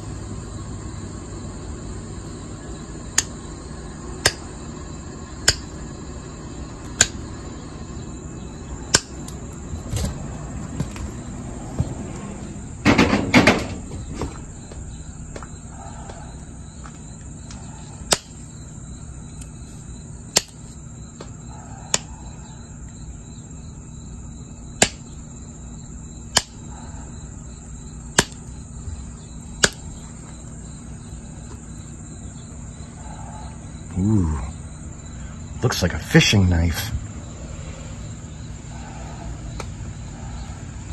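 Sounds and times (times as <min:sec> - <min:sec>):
high insect-like trill: 0:00.0 - 0:40.9.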